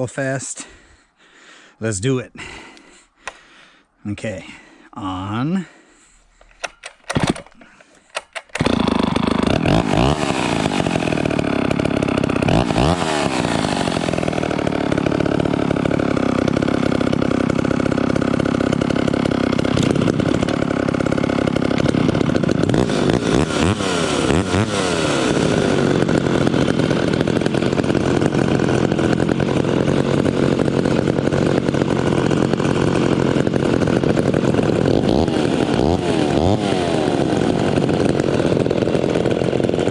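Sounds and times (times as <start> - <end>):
chainsaws revving: 2.4 - 39.9.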